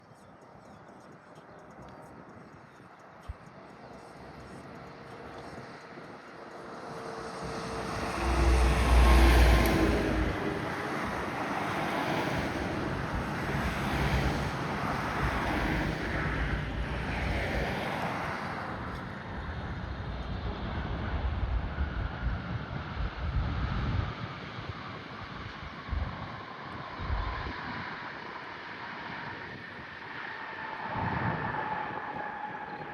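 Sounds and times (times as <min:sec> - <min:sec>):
wind buffeting microphone: 0:00.6 - 0:32.9
jet airliner landing: 0:04.2 - 0:32.9.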